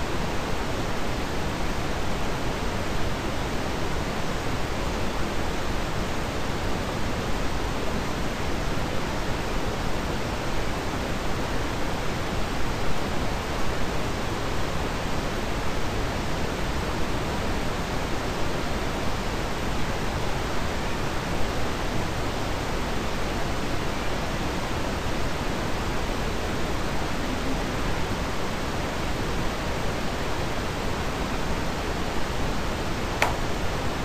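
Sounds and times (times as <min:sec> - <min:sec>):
steady broadband hiss: 0:00.0 - 0:34.0.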